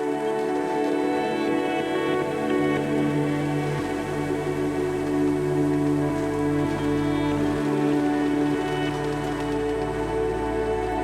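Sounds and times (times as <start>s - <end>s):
calm ambient music: 0.0s - 11.0s.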